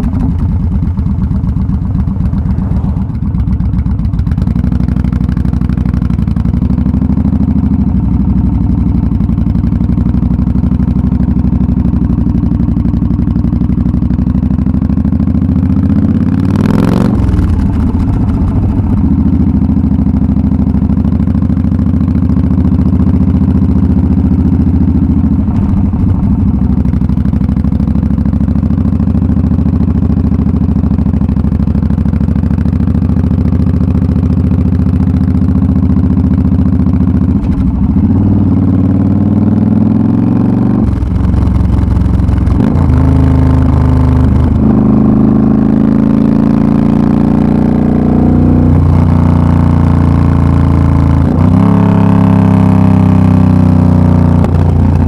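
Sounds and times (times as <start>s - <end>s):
motorcycle exhaust running: 0.0s - 55.0s.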